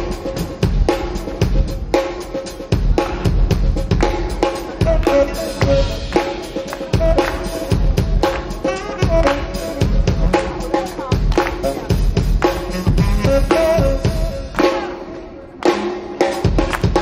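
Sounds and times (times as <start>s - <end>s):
drum kit playing groove: 0.0s - 17.0s.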